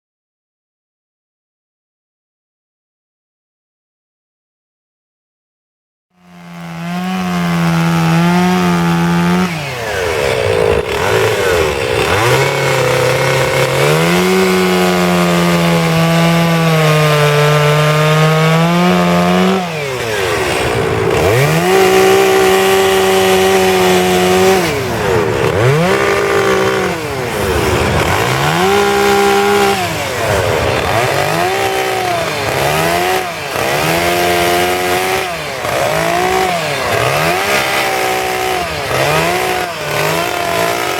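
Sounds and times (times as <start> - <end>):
chainsaw cutting wood: 6.2 - 40.9.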